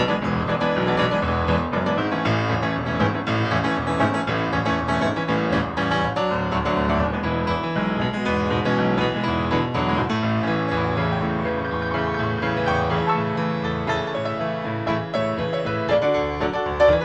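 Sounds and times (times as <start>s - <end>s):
instrumental piano music: 0.0s - 17.0s.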